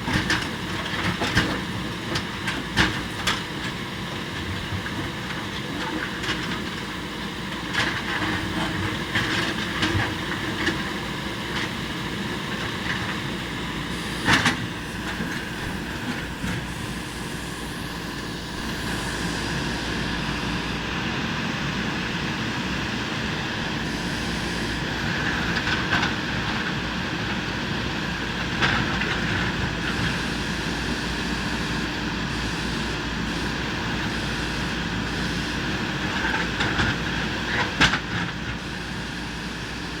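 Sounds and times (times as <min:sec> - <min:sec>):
backhoe engine running: 0:00.0 - 0:40.0.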